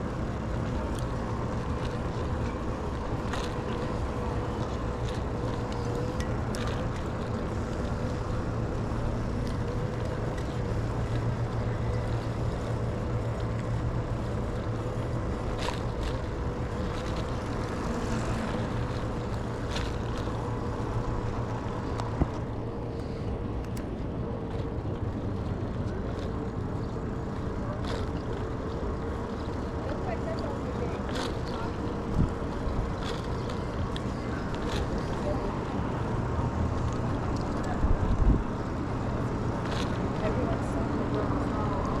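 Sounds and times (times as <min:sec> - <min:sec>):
wind: 0:00.0 - 0:42.0.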